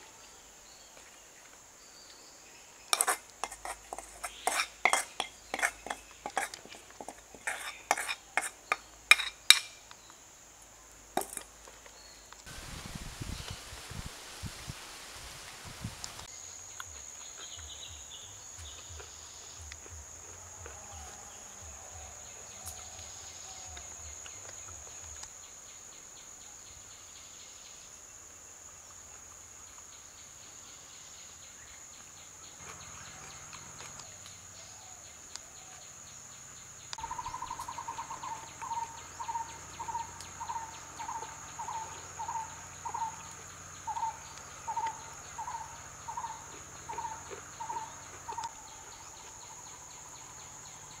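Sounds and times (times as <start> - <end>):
insect trill: 0.0 - 51.0.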